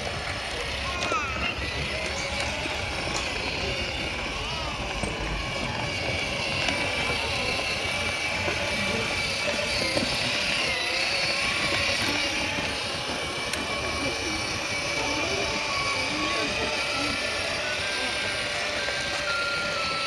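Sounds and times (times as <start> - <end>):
street noise hum: 0.0 - 20.0
toy car electric motor whining: 0.0 - 20.0.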